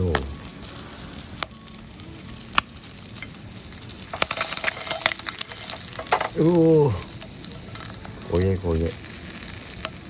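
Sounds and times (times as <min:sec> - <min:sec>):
bacon sizzling over campfire: 0:00.0 - 0:10.0.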